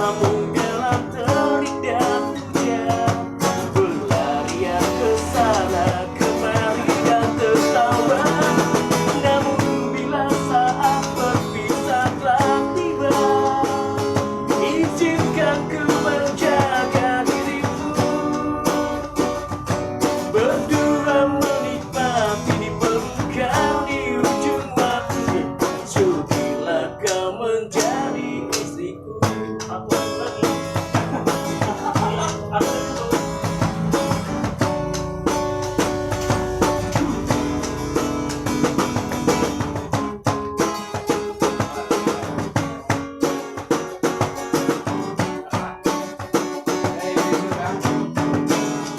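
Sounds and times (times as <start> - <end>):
person singing: 0.0 - 48.9
strummed acoustic guitar: 0.0 - 48.9.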